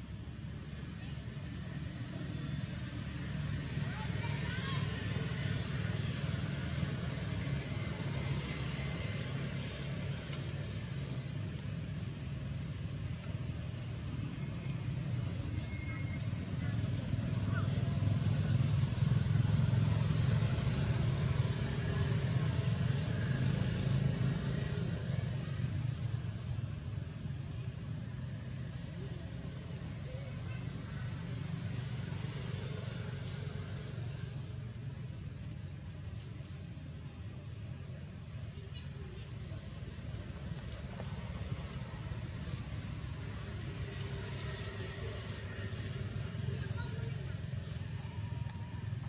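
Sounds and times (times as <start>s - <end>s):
vehicle engine rumble: 0.0s - 49.0s.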